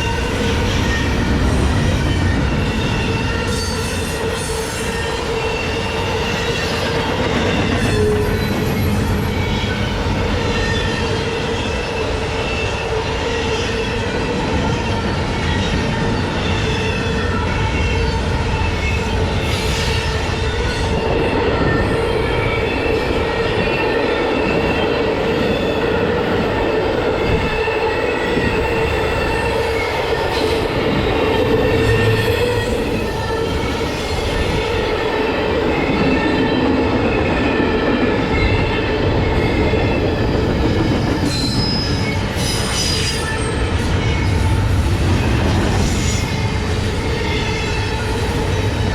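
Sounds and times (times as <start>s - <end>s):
rumble and clatter of train cars: 0.0s - 48.9s
train wheels squealing on rails: 0.0s - 48.9s.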